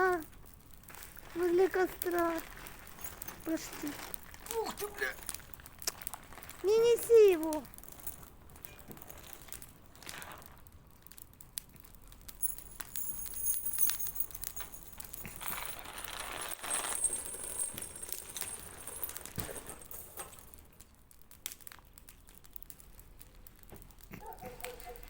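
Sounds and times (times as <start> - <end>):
bonfire crackling and popping: 0.0 - 17.1, 17.7 - 25.0.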